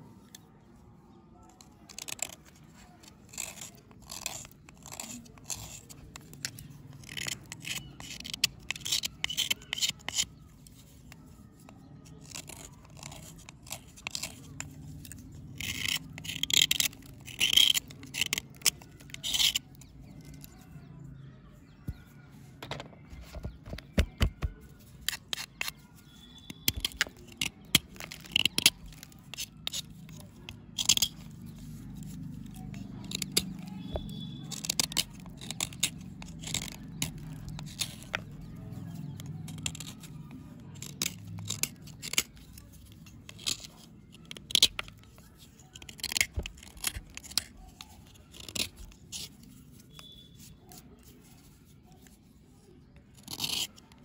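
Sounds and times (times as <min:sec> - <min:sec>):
knife scraping chalky block: 0:01.5 - 0:22.2, 0:23.0 - 0:54.0.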